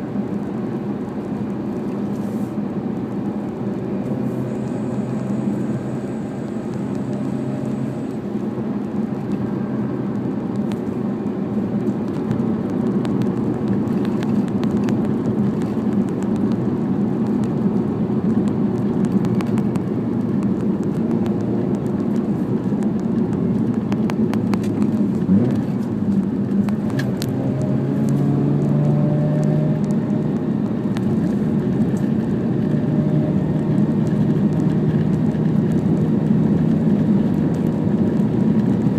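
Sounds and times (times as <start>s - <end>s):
road noise: 0.0s - 38.9s
rotary engine drone in car cabin: 0.0s - 38.9s.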